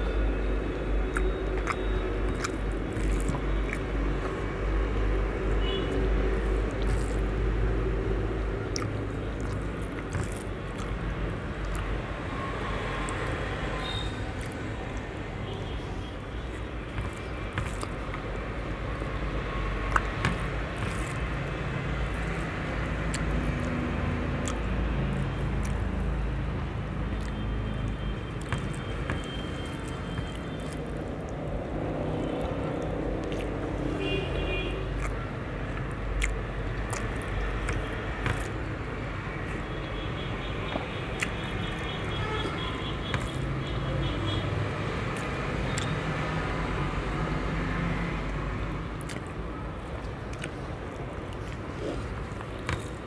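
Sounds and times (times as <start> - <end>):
chewing: 0.0 - 15.2, 15.8 - 39.7, 40.5 - 53.0.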